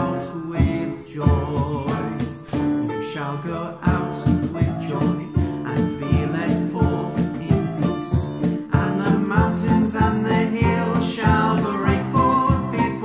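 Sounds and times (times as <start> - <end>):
man singing in harmony: 0.0 - 13.0
upright piano: 0.0 - 13.0
cajon beating rhythm: 0.6 - 3.0, 3.8 - 13.0.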